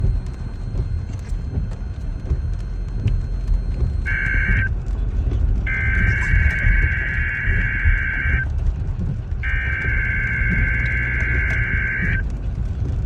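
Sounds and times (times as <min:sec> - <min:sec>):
heavy low rumbling static: 0:00.0 - 0:13.0.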